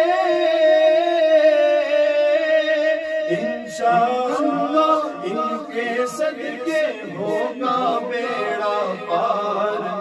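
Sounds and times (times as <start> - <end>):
men singing unaccompanied: 0.0 - 10.0.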